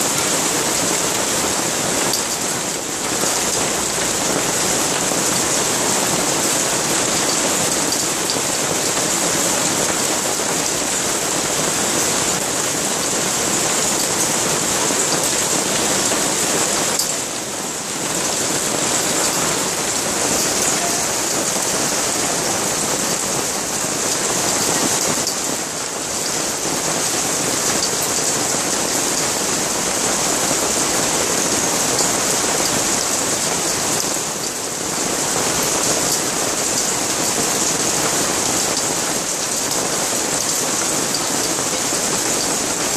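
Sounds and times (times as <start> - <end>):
hail and rain on paving stones: 0.0 - 42.9.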